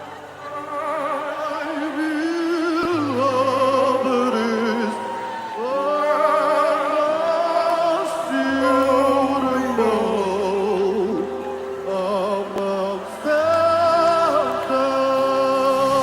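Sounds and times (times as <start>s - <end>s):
person singing with vibrato: 0.0s - 16.0s
sustained keyboard chords: 0.0s - 16.0s.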